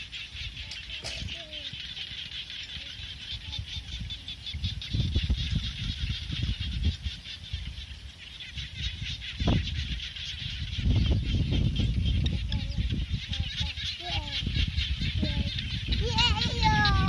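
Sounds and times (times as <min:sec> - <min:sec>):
insects chirring and chirping: 0:00.0 - 0:17.0
wind rumbling on microphone: 0:00.0 - 0:17.0.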